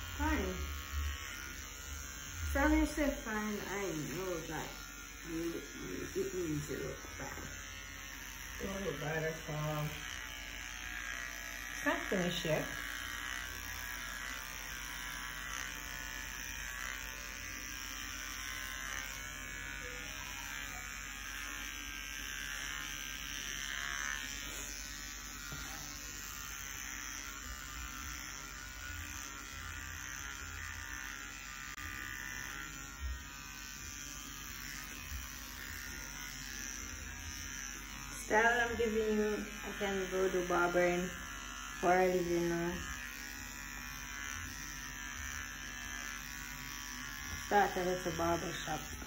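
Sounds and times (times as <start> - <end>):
electric hair clippers buzzing: 0.0 - 49.0.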